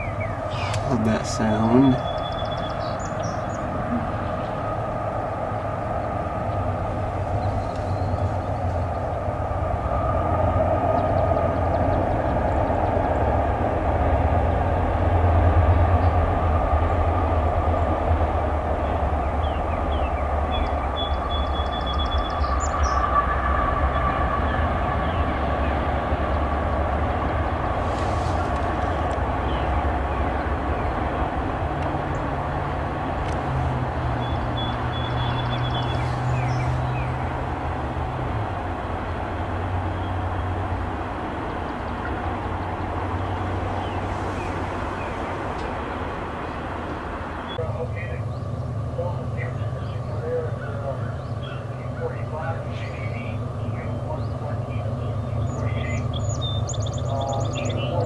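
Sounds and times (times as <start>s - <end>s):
diesel locomotive engine drone: 0.0s - 58.0s
train rumbling past: 0.0s - 58.0s.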